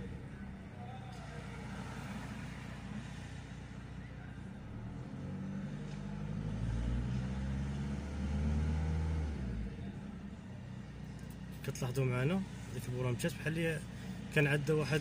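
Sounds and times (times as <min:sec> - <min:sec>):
diesel car engine idling and revving: 0:00.0 - 0:15.0.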